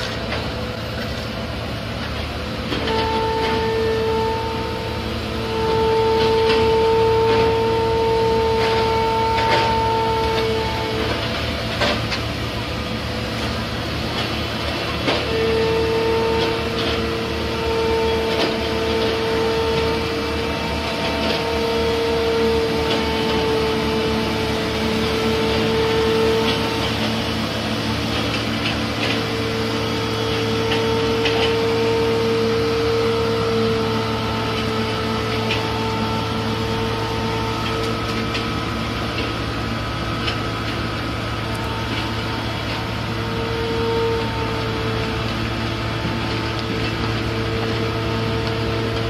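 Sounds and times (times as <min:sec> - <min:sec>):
paving machine drone with whine: 0:00.0 - 0:49.0.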